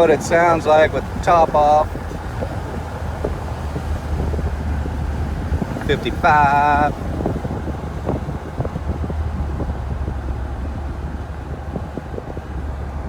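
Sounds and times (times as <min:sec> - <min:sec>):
car exhaust drone: 0:00.0 - 0:13.0
road noise: 0:00.0 - 0:13.0
wind noise: 0:00.0 - 0:13.0.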